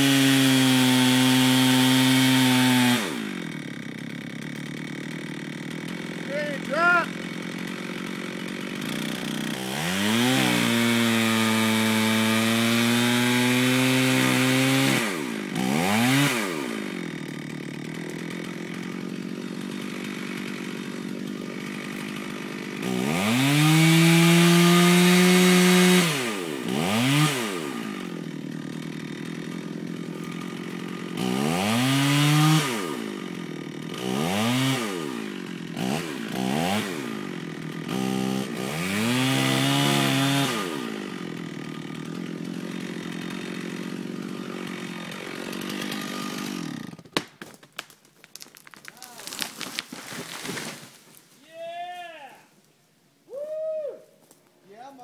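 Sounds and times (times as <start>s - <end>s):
chainsaw idling: 0.0s - 47.3s
chainsaw cutting wood: 0.0s - 51.4s.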